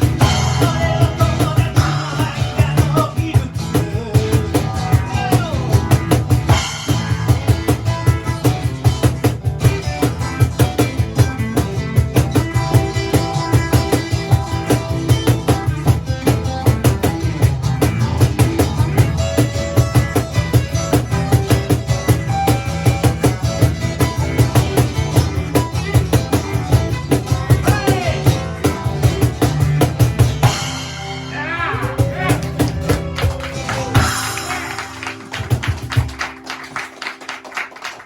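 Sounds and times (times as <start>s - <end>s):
fast drum kit playing: 0.0s - 37.9s
live band playing: 0.0s - 38.0s.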